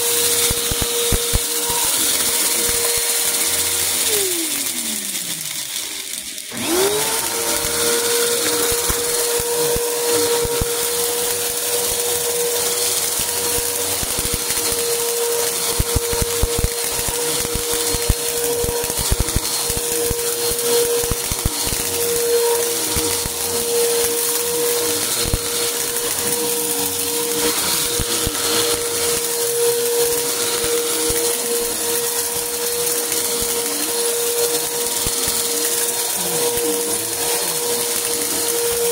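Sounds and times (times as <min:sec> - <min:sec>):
vacuum cleaner motor humming: 0:00.0 - 0:38.9.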